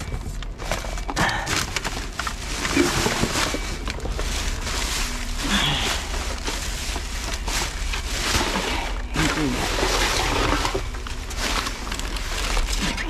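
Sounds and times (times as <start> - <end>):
plastic bags rustling and crinkling: 0.0 - 13.0.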